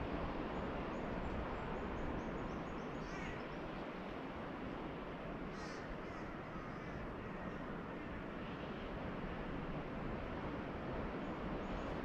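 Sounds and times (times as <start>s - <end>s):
gentle surf: 0.0s - 12.0s.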